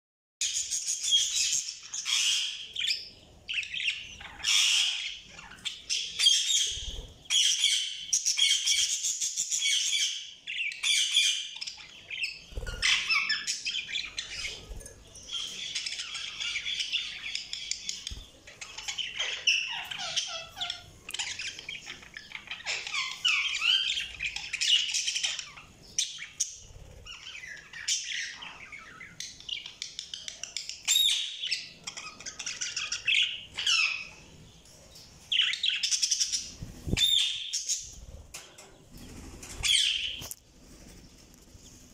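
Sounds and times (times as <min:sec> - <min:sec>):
budgerigars chirping and warbling: 0:00.4 - 0:41.9.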